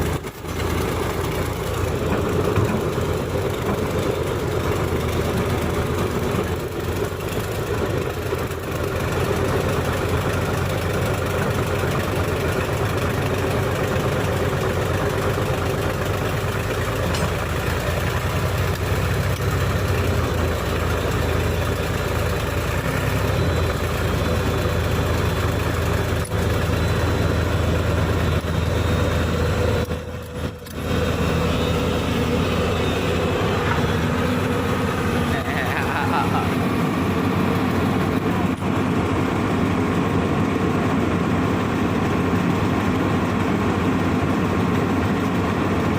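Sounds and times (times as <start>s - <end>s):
heavy diesel machines running: 0.0s - 45.9s.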